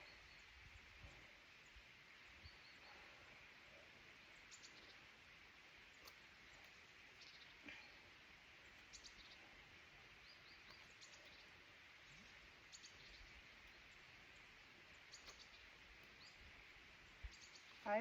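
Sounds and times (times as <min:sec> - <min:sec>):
faint bird chirps: 0:00.0 - 0:18.0
soft steady hiss: 0:00.0 - 0:18.0.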